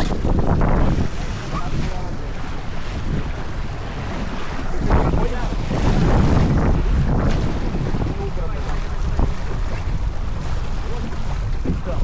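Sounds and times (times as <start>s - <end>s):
water rushing along hull: 0.0s - 12.0s
water splashes: 0.0s - 12.0s
wind buffeting microphone: 0.0s - 12.0s.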